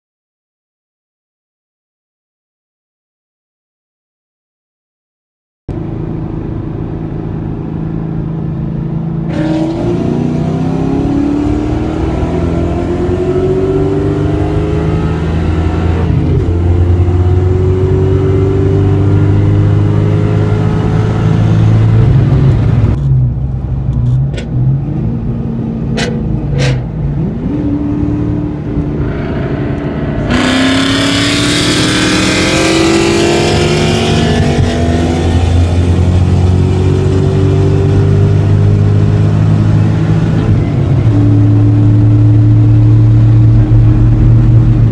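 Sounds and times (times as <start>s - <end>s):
engine at full throttle: 5.7s - 23.0s, 25.1s - 44.9s
wind and exhaust noise: 5.7s - 44.9s.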